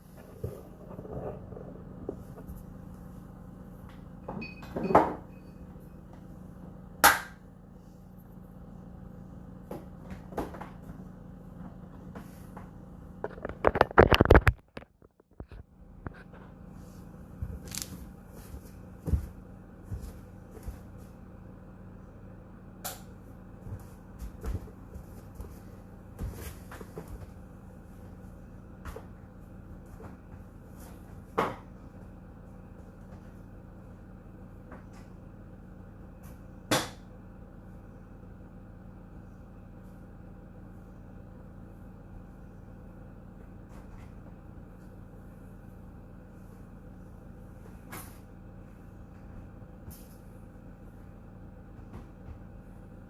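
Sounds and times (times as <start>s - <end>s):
dishwasher humming: 0.0s - 53.0s.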